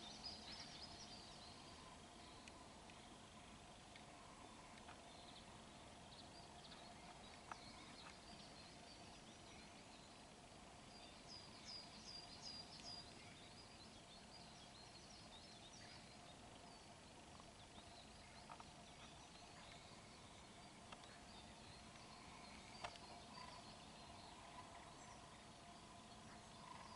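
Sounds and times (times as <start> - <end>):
faint steady hum: 0.0 - 26.9
songbird chirps and calls: 0.0 - 26.9.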